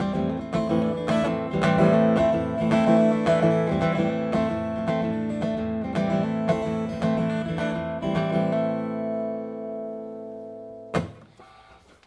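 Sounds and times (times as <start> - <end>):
acoustic guitar strumming: 0.0 - 11.7.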